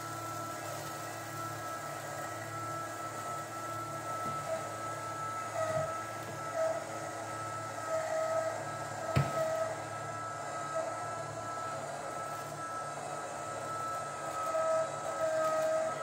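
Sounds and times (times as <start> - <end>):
litter box motor whining: 0.0 - 16.0.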